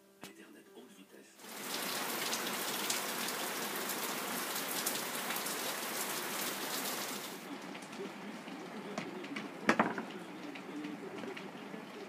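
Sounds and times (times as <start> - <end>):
rain falling: 1.4 - 12.0.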